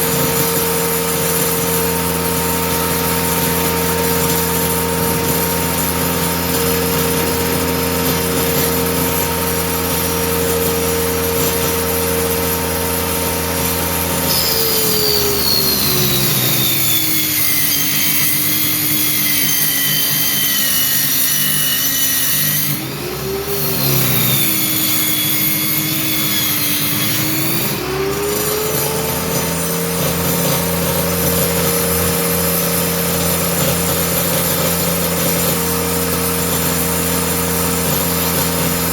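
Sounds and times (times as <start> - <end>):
circular saw cutting: 0.0 - 38.9.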